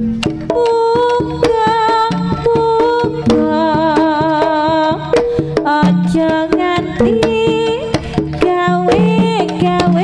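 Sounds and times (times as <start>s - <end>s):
gamelan melodic notes: 0.0s - 10.0s
hand drum strokes: 0.0s - 10.0s.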